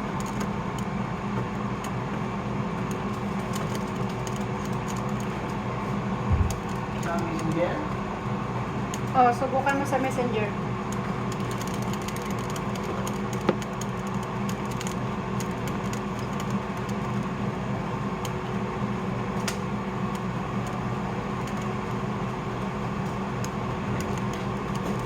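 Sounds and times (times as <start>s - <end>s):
air fryer fan hum: 0.0s - 25.0s.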